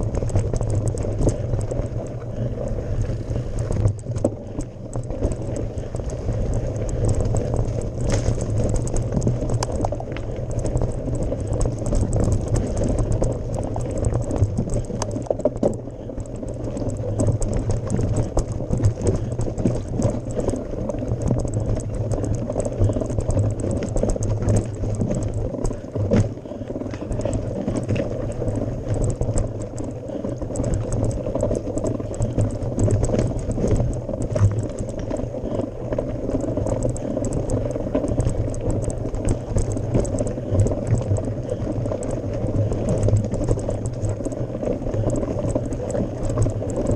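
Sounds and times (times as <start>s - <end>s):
stones and bike rattling: 0.0s - 46.9s
tyres rolling on gravel: 0.0s - 46.9s.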